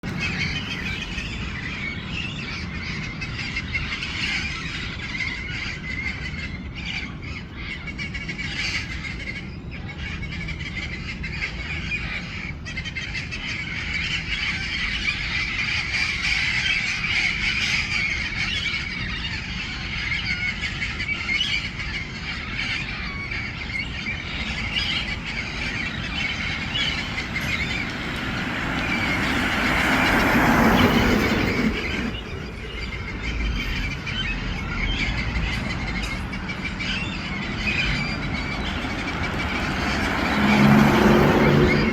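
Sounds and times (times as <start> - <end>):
parrots squawking: 0.1 - 41.9.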